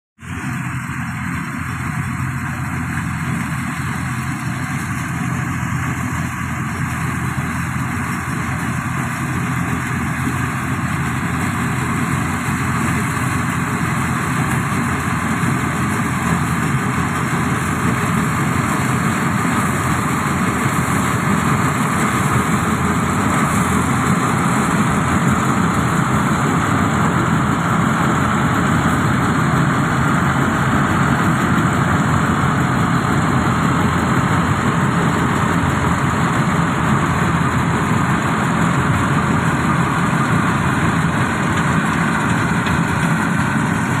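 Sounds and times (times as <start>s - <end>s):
harvester machinery running: 0.2s - 44.0s
tractor diesel engine: 0.2s - 44.0s.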